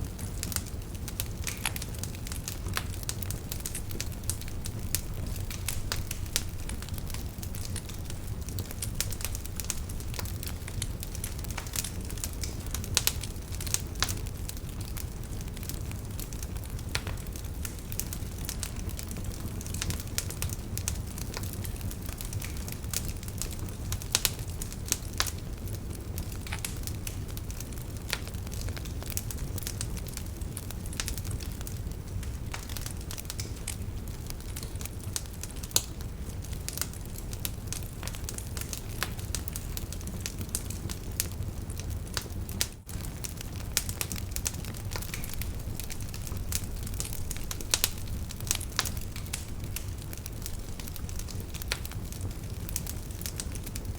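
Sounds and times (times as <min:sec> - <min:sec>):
low rumble of flames: 0:00.0 - 0:53.9
wood fire crackling: 0:00.0 - 0:53.9.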